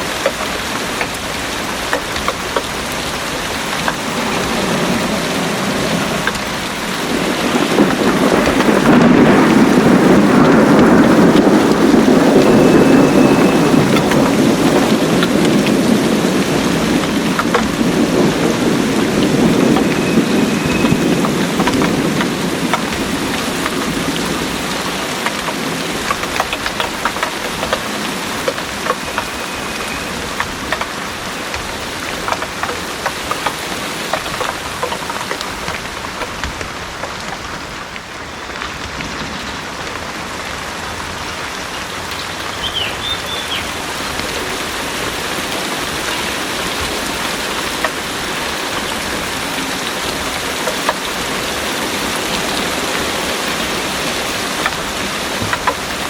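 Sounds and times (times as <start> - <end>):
heavy rain falling: 0.0 - 56.0
raindrops striking surfaces: 0.0 - 56.0
thunder rumbling: 0.0 - 56.0.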